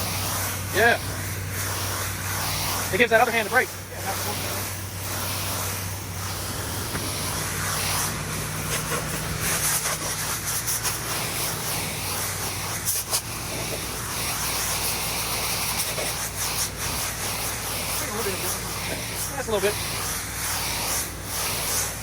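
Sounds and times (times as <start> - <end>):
pressure washer spraying water: 0.0 - 22.0.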